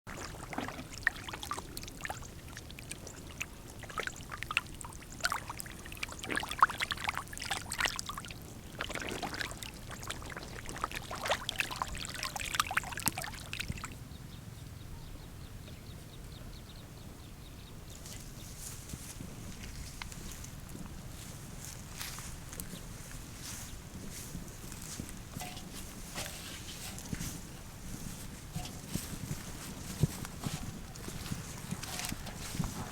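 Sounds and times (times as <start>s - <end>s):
shallow water splashing: 0.1s - 14.0s, 18.8s - 32.9s.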